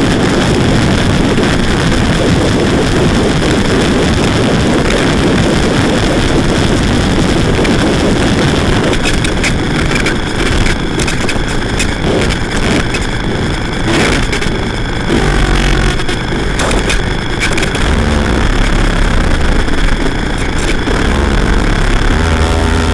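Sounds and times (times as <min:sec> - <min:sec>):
harsh distorted noise music: 0:00.0 - 0:22.9
low hum with held tones: 0:00.0 - 0:22.9.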